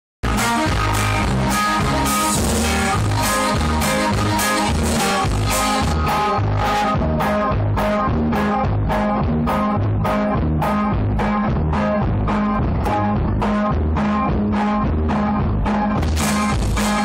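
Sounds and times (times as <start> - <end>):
bass line: 0.2 - 17.0
drum kit beat: 0.2 - 17.0.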